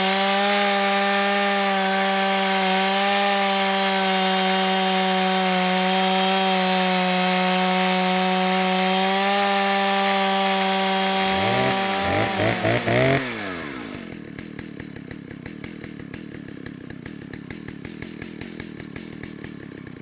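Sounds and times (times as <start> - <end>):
chainsaw running at full throttle: 0.0 - 20.0.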